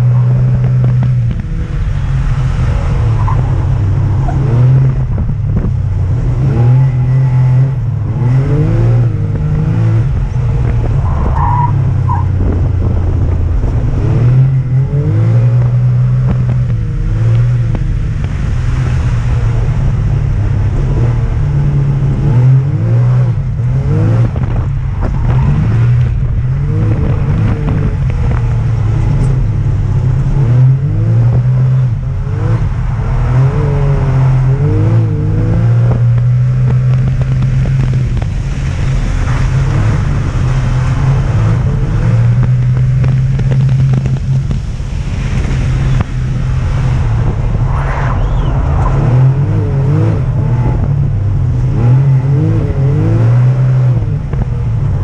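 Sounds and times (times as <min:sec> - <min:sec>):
off-road vehicle engine accelerating: 0:00.0 - 0:55.0.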